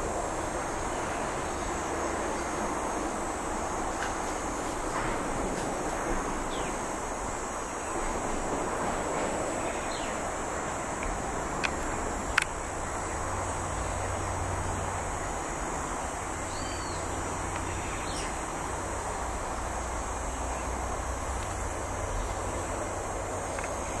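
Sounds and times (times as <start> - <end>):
background hiss and low hum: 0.0 - 24.0.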